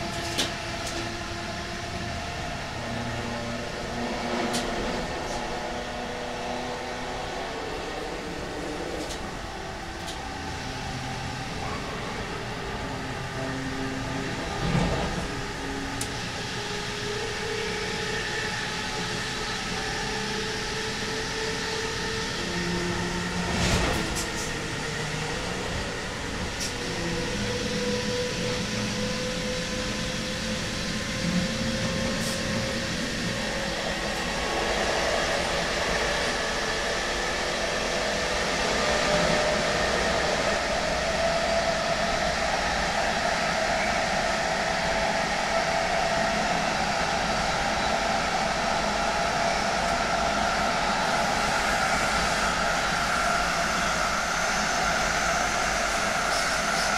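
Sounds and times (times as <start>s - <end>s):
train running and track noise: 0.0s - 56.9s.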